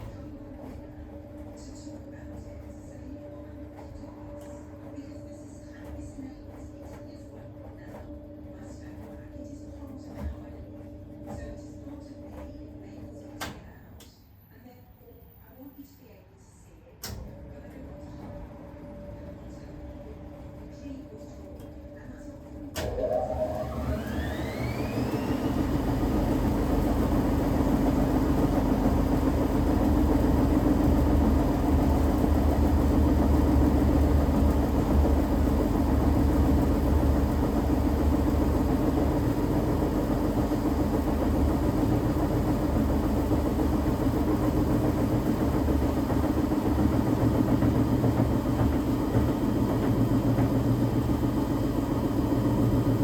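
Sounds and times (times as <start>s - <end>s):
washing machine spinning: 0.0s - 16.2s, 16.9s - 53.0s.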